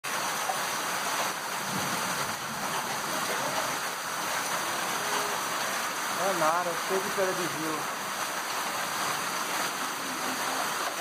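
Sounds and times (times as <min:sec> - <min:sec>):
rain and hail pelting ground: 0:00.0 - 0:11.0.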